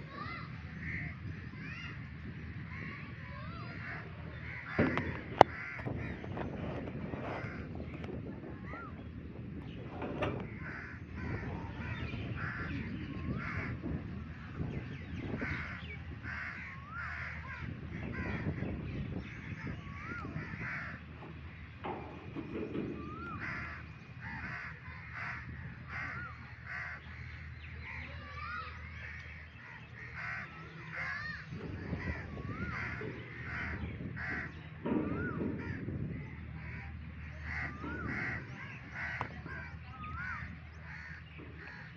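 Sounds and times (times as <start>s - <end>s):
birds calling: 0.0s - 41.9s
steady low hum: 0.0s - 41.9s.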